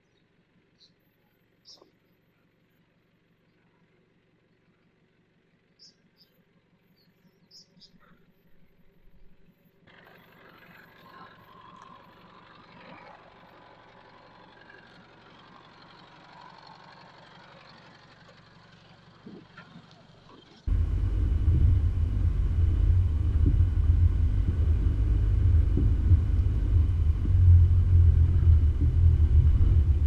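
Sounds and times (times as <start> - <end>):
diesel engine running: 0.2 - 30.0.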